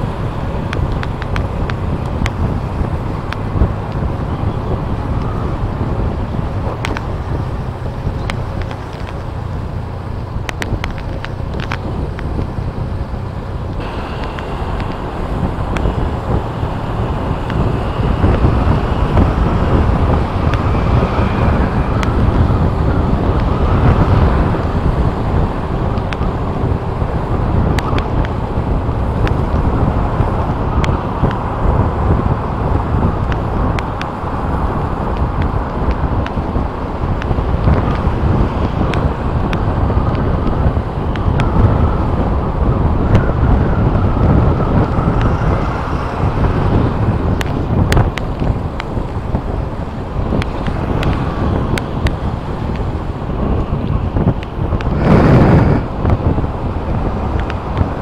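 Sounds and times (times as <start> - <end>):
road and traffic noise: 0.0 - 58.0
wind on microphone: 0.0 - 58.0.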